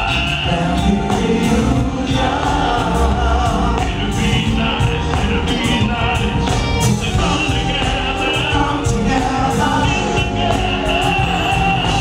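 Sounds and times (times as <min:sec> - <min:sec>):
band with keyboards and bass: 0:00.0 - 0:12.0
man singing into a microphone: 0:00.0 - 0:12.0.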